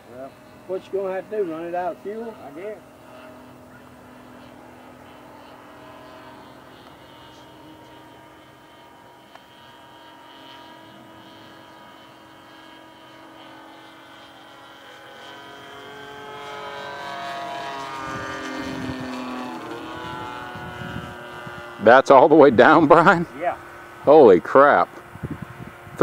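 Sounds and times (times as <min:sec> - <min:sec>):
model airplane engine at high throttle: 0:00.0 - 0:26.0.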